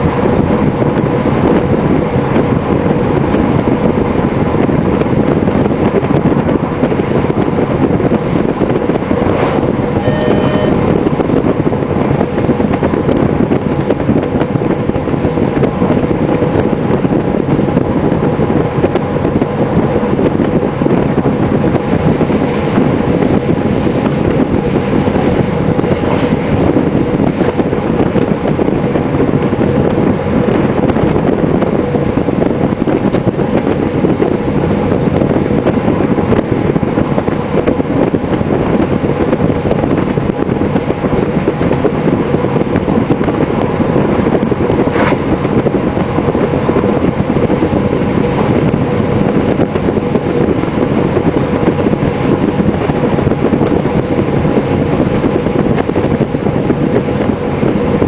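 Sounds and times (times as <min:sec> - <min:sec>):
diesel train engine drone: 0:00.0 - 0:58.0
wheels rumbling on rails: 0:00.0 - 0:58.0.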